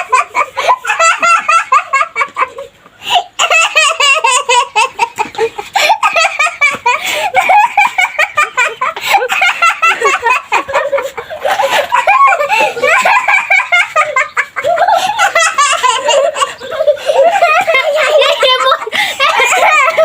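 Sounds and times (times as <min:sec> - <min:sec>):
small children laughing: 0:00.0 - 0:20.0.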